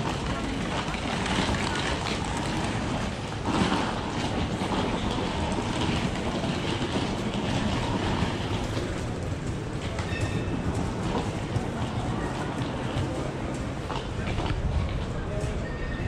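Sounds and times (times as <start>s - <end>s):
rail vehicle rumbling: 0.0s - 16.0s.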